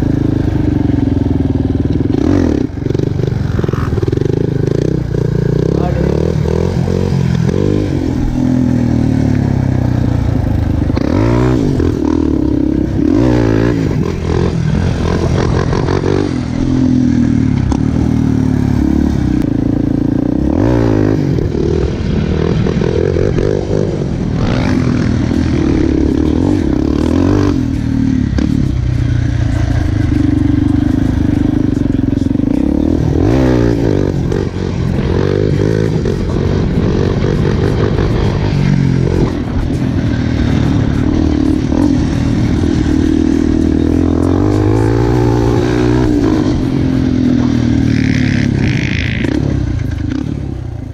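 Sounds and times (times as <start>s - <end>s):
quad bike engine revving: 0.0s - 50.9s.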